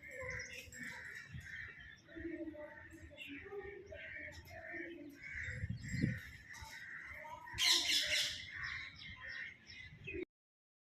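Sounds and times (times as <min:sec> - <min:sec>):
birds chirping and calling: 0:00.0 - 0:10.3.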